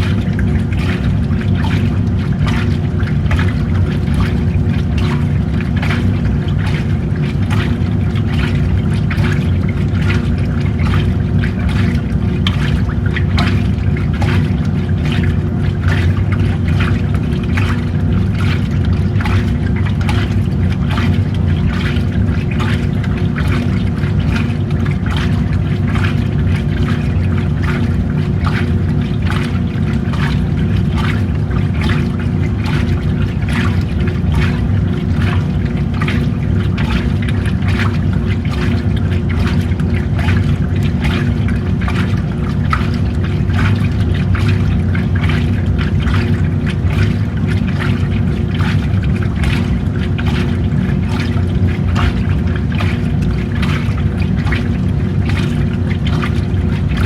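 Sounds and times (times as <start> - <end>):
washing machine motor hum: 0.0 - 57.0
water sloshing: 0.0 - 57.0.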